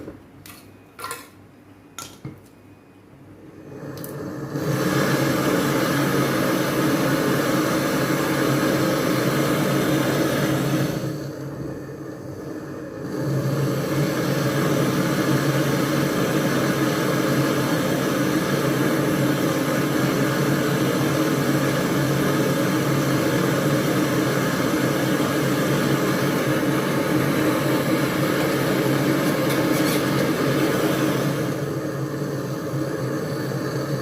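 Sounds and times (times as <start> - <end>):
machine humming: 3.0 - 34.0.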